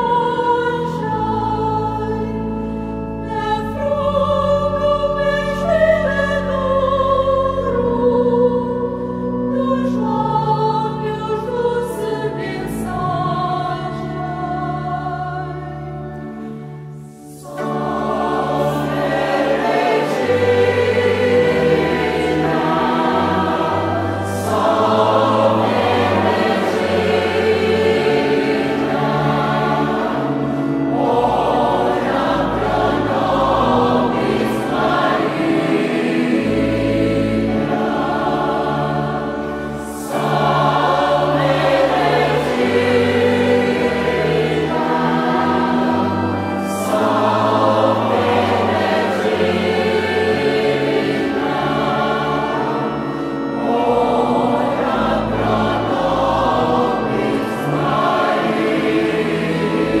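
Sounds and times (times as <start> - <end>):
choir singing slow phrases: 0.0 - 60.0.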